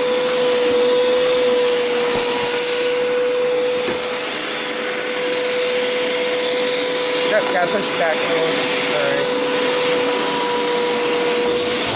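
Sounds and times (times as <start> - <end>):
carpet cleaner motor whine: 0.0 - 11.9
suction hiss: 0.7 - 11.9.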